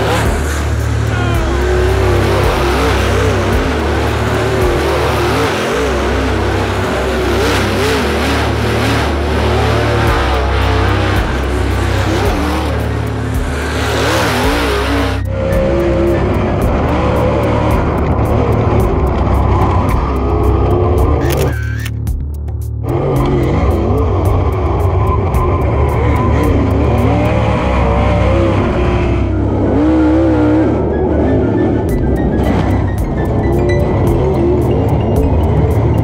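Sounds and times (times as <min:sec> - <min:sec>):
background music with bass beat: 0:00.0 - 0:36.0
race car engines revving: 0:00.0 - 0:36.0.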